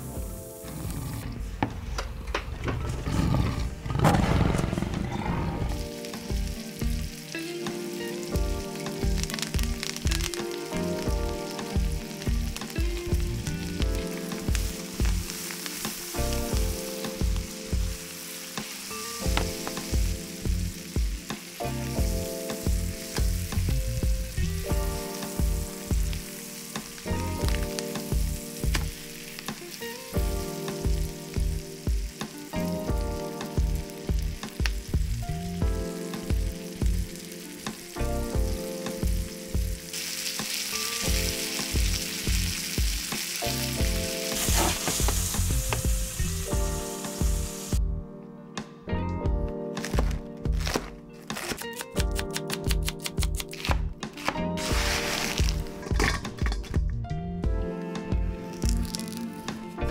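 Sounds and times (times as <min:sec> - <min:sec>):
background music with steady beat: 0:00.0 - 0:00.7, 0:05.8 - 0:59.9
steak sizzling in a pan: 0:00.0 - 0:01.2, 0:02.8 - 0:47.8, 0:49.6 - 0:56.8, 0:58.4 - 0:59.7.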